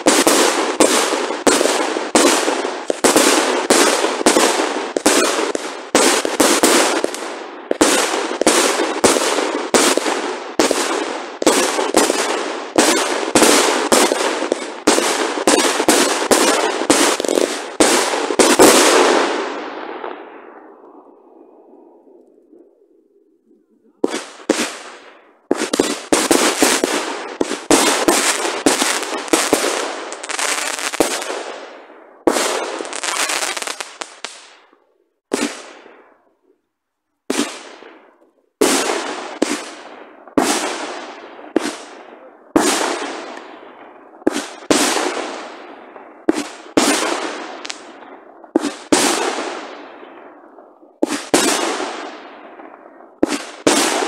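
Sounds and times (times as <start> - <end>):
fireworks bursting with bangs: 0.0 - 21.5, 23.8 - 36.3, 37.2 - 54.0.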